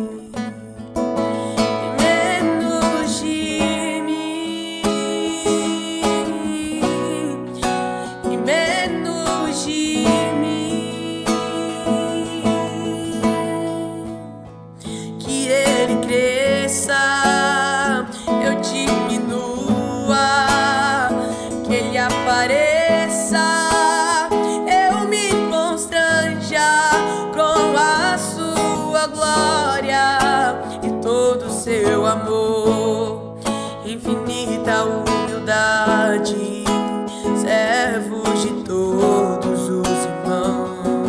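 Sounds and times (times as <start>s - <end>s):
acoustic guitar: 0.0s - 41.0s
man singing: 0.0s - 41.0s.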